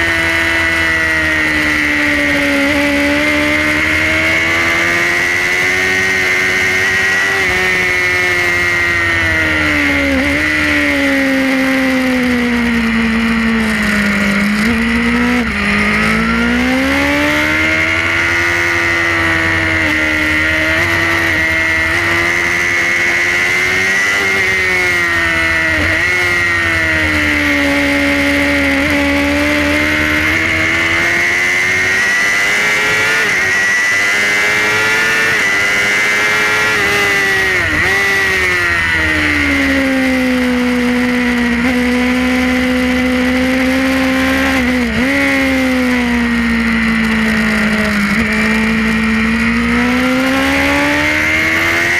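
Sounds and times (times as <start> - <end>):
motorcycle engine at high revs: 0.0 - 51.9.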